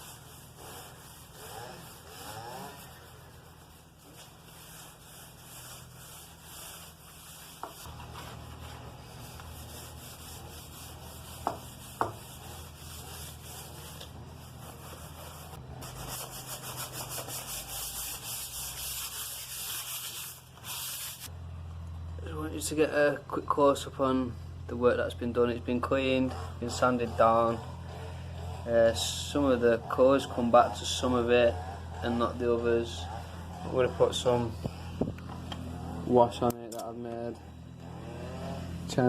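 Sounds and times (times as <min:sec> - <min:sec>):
wire wool scrubbing wood floor: 0:00.0 - 0:21.3, 0:25.4 - 0:36.4, 0:37.4 - 0:39.0.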